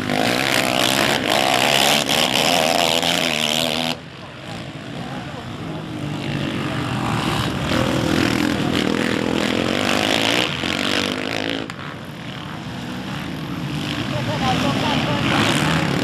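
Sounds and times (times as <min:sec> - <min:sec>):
quad engine at high revs: 0:00.0 - 0:16.0.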